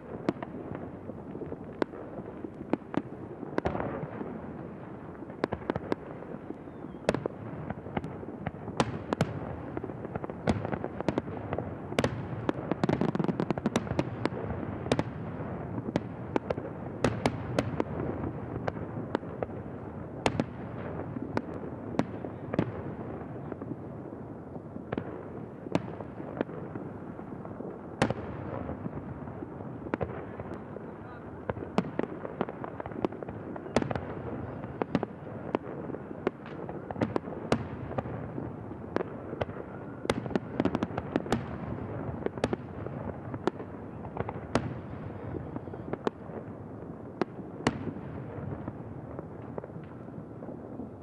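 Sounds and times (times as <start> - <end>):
fireworks bangs and cracks: 0.0 - 51.0.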